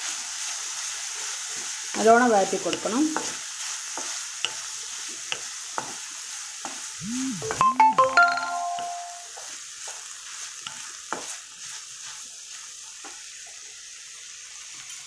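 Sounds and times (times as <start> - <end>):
onions sizzling in oil: 0.0 - 7.6, 8.6 - 15.0.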